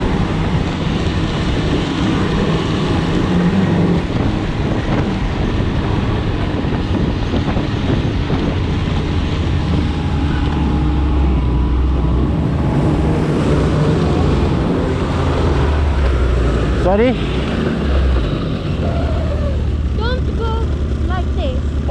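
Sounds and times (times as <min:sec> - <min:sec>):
broad rushing noise: 0:00.0 - 0:21.9
snowmobile engine running: 0:00.0 - 0:21.9.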